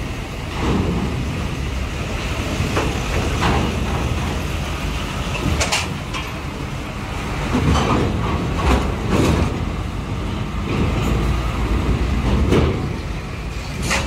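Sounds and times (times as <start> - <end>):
diesel vehicles rumbling: 0.0 - 14.0
wheels clanking on steel ramp: 0.4 - 6.6, 7.3 - 14.0.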